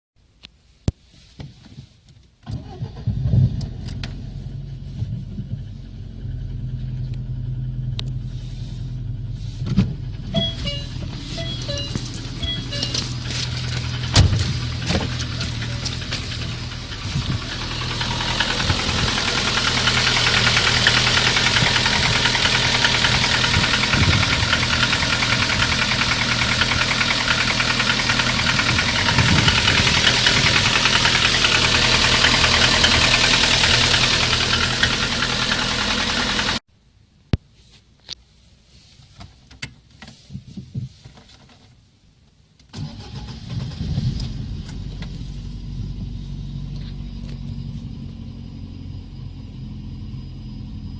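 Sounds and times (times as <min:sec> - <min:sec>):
car engine running: 0:02.6 - 0:36.6, 0:42.8 - 0:50.9.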